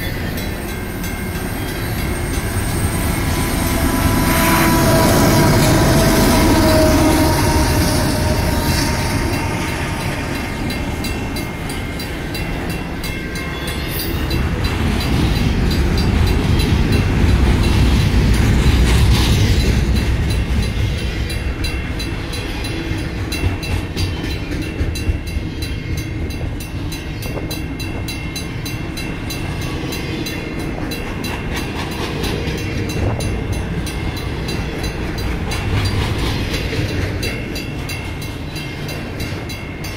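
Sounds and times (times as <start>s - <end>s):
crossing signal bells ringing: 0.0s - 18.8s, 19.4s - 39.9s
diesel locomotive passing: 0.0s - 39.9s.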